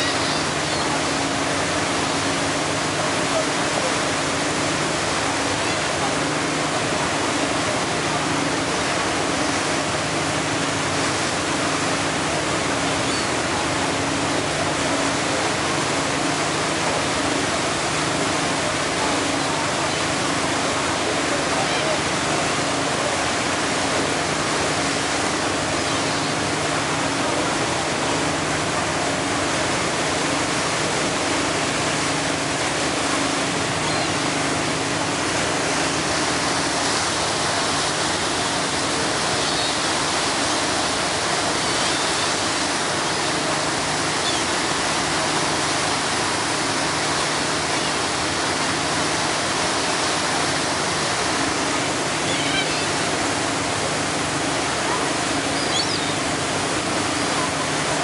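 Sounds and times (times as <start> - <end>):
churning water: 0.0 - 58.0
faint low engine hum: 0.0 - 58.0.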